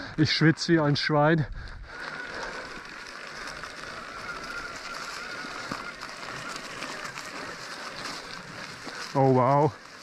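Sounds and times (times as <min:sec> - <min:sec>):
bike tyres on dry leaves: 0:00.0 - 0:10.0
electric motor whine: 0:01.8 - 0:10.0.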